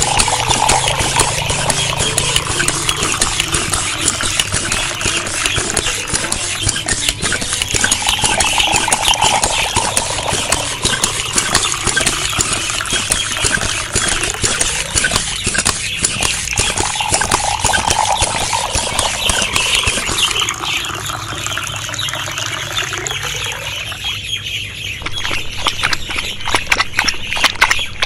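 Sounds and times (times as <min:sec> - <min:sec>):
water stream splashing into basin: 0:00.0 - 0:24.0.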